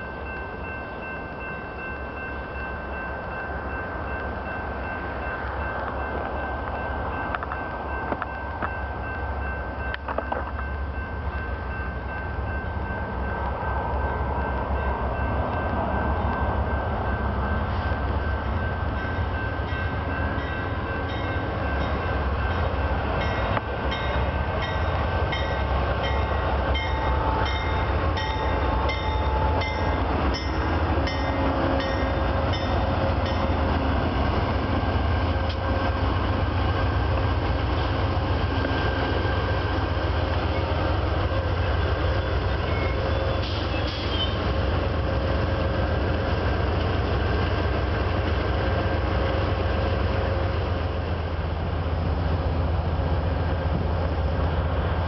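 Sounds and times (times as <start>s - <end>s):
locomotive bell ringing: 0.0s - 51.6s
locomotive engine rumble: 0.0s - 55.0s
thin steady train squeal: 0.0s - 55.0s.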